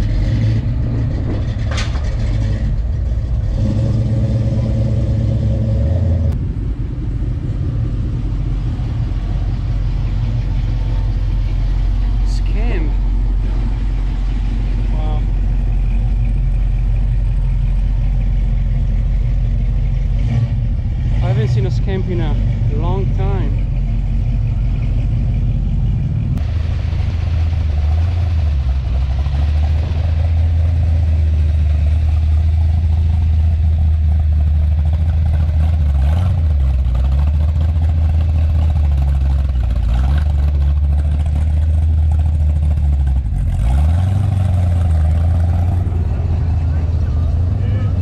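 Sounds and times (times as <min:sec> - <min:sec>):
car engine rumbling: 0:00.0 - 0:48.0.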